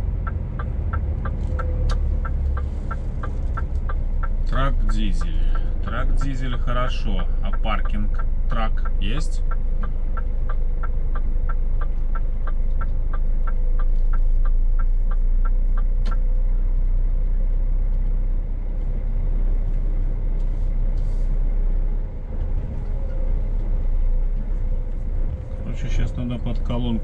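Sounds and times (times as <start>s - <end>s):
turn signal ticking: 0.0s - 20.5s, 21.5s - 27.0s
truck engine running: 0.0s - 27.0s.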